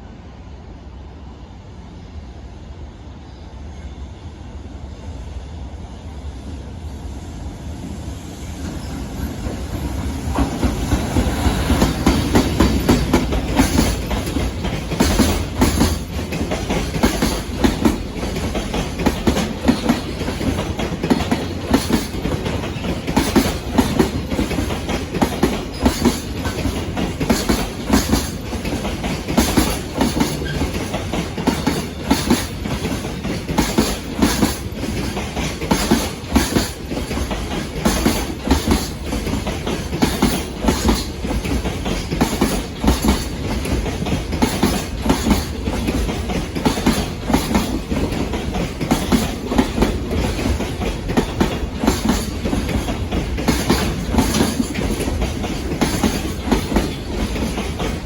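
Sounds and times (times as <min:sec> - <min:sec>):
freight train rumble: 0:00.0 - 0:58.0
wheels clicking over rail joints: 0:10.3 - 0:58.0.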